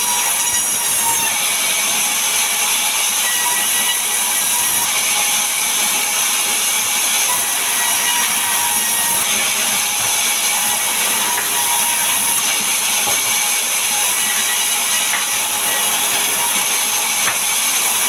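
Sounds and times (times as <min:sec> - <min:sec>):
band saw cutting timber: 0:00.0 - 0:18.0.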